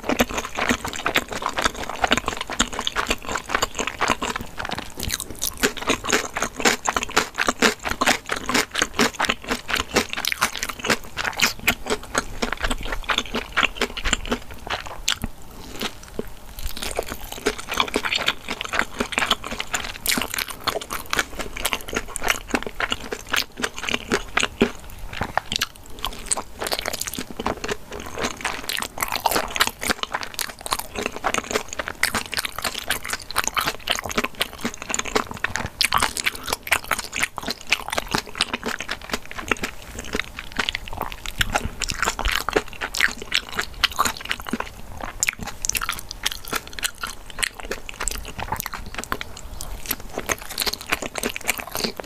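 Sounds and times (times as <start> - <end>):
chewing dumplings: 0.0 - 52.0.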